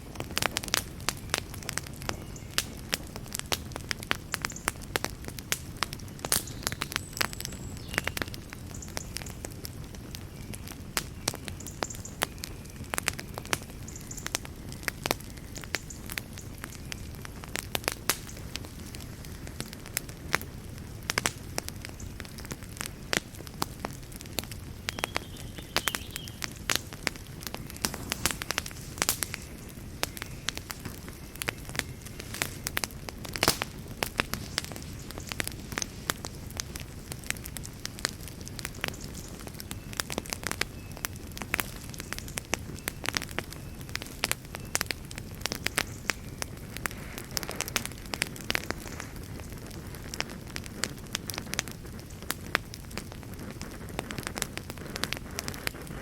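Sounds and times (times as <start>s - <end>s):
burning logs crackling and popping: 0.0s - 56.0s
flames rumbling and hissing: 0.0s - 56.0s.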